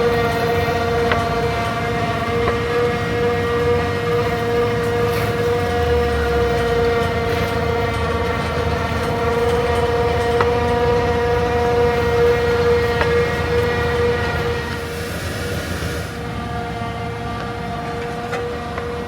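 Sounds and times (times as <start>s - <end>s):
heavy farm machinery running: 0.0s - 19.0s.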